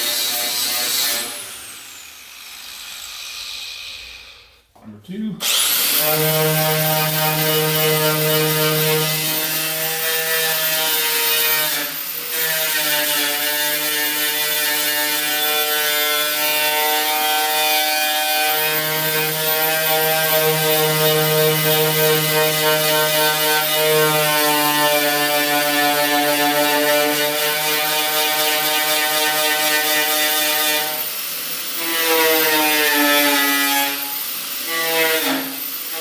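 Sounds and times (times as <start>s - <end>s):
power tool stripping sheet metal: 5.4s - 36.0s.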